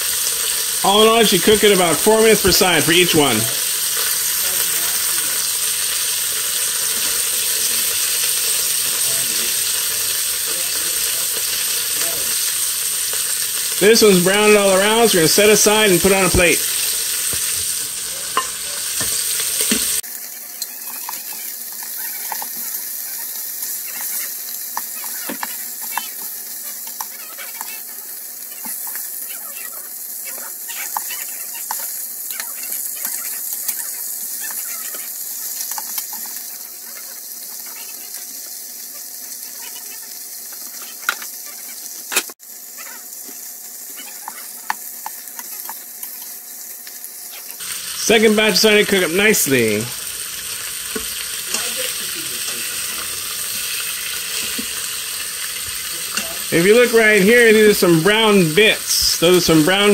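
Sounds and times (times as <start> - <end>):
meat sizzling in hot oil: 0.0 - 59.9.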